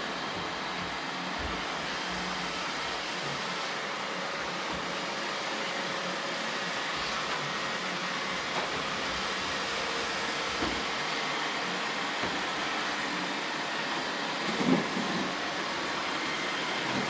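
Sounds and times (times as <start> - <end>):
robot vacuum humming: 0.0 - 17.0.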